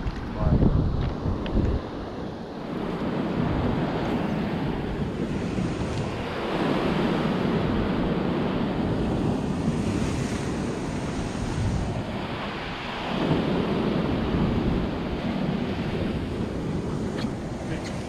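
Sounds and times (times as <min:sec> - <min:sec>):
surf washing against rocky shore: 0:00.0 - 0:18.0.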